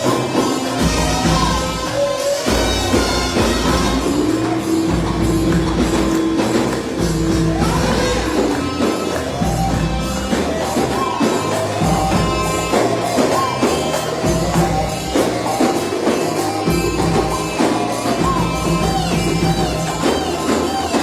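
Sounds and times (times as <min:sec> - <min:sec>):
popular music: 0:00.0 - 0:21.0
tambourine beat: 0:00.0 - 0:21.0.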